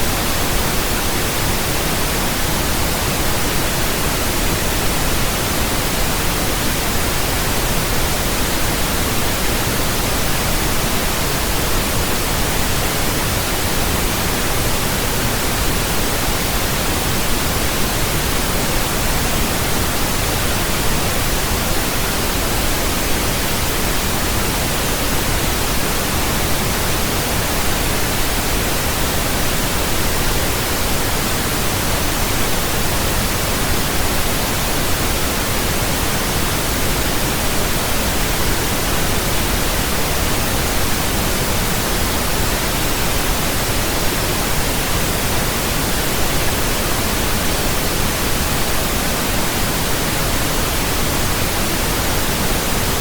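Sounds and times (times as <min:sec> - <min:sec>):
steady pink noise hiss: 0:00.0 - 0:53.0.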